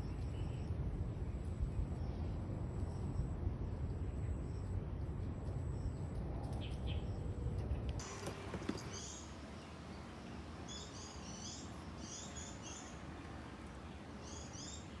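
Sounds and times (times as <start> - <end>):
low background noise: 0.0 - 15.0
small birds chirping: 0.0 - 15.0.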